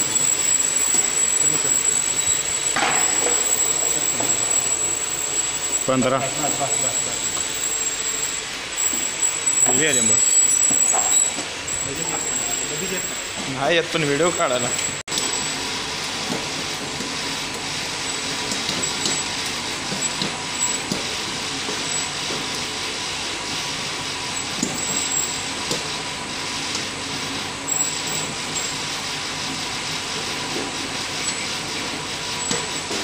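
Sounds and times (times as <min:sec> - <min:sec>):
conveyor dryer whirring: 0:00.0 - 0:33.0.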